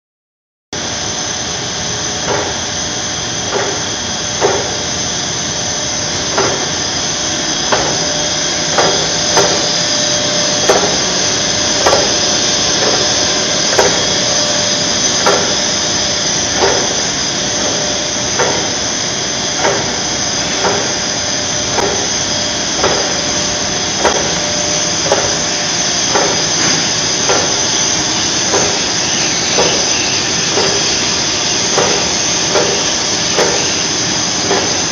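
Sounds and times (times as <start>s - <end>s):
machine film and rollers hissing: 0.8s - 34.9s.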